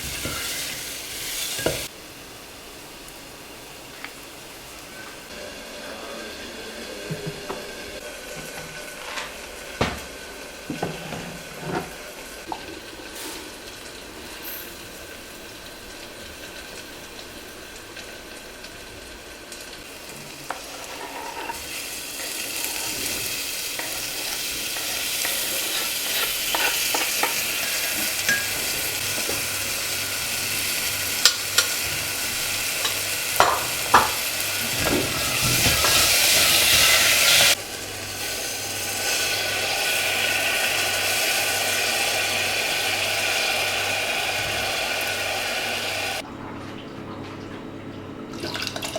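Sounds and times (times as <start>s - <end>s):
food sizzling in a pan: 0.0s - 46.2s.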